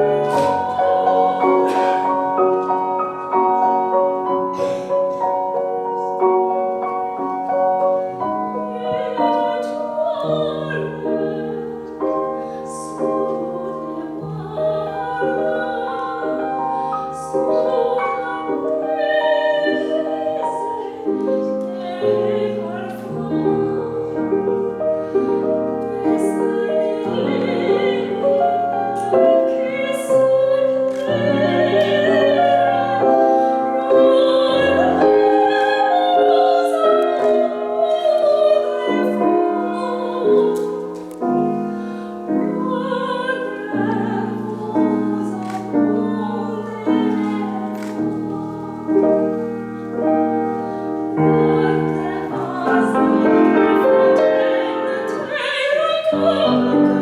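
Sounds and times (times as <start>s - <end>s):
piano accompaniment: 0.0s - 57.0s.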